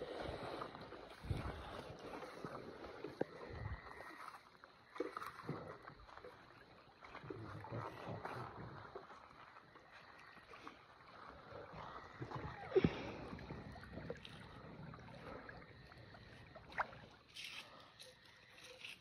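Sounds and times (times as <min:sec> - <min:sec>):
water sloshing from wading: 0:00.0 - 0:19.0.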